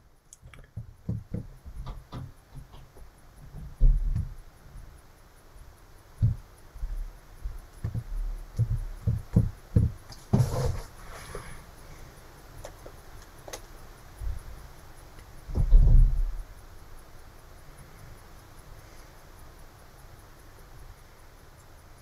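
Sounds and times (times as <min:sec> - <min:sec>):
rustle: 0:00.0 - 0:22.0.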